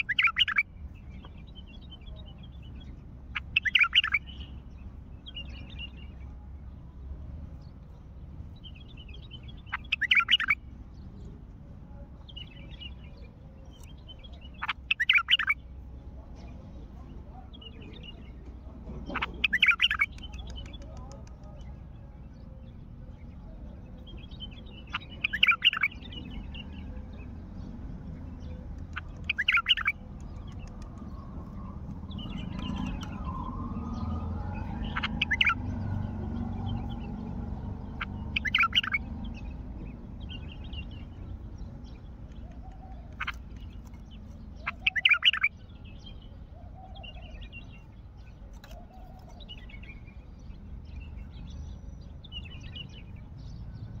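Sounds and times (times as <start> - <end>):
bird singing warbled phrases: 0.0 - 54.0.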